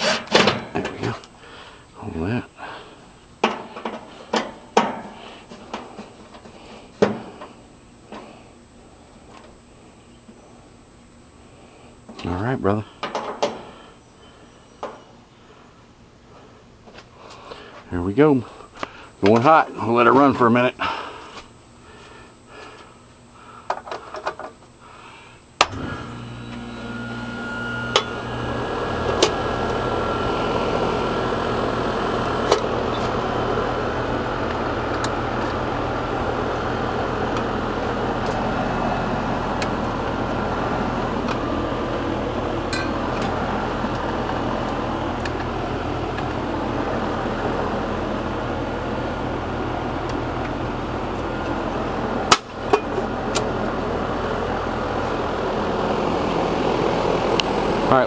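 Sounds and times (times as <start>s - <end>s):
compressor humming: 0.0s - 58.0s
condenser fan running: 0.0s - 58.0s.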